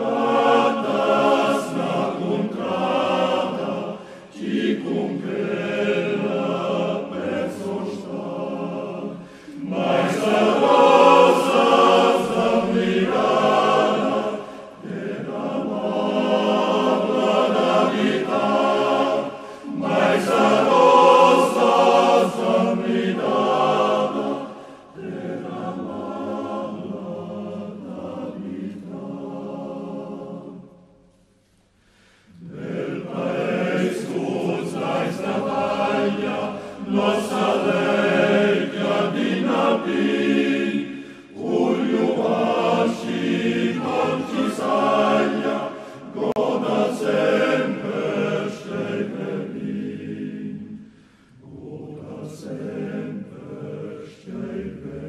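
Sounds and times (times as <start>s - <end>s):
male choir singing: 0.0s - 30.8s, 32.3s - 55.0s.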